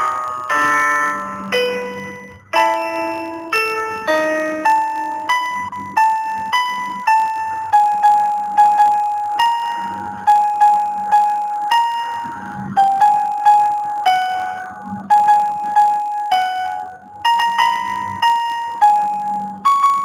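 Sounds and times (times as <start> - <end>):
slow keyboard melody: 0.0 - 20.0.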